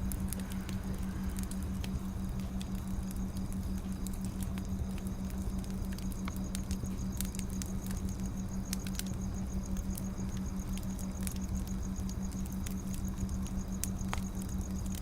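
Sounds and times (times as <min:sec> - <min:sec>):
firewood crackling and popping: 0:00.0 - 0:15.0
low rumble of fire: 0:00.0 - 0:15.0
steady low hum: 0:00.0 - 0:15.0.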